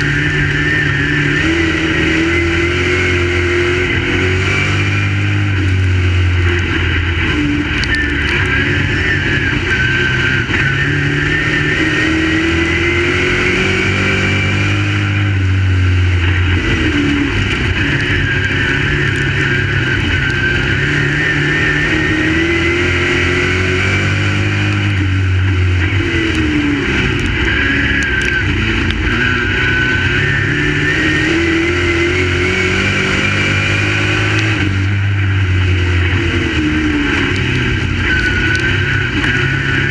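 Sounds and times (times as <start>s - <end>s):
race car engine at racing speed: 0.0s - 39.9s.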